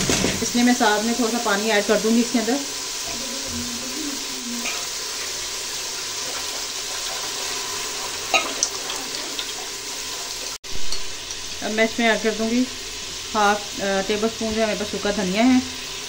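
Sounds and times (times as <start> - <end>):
oil sizzling in a pot: 0.0 - 16.0
water pouring: 0.0 - 16.0.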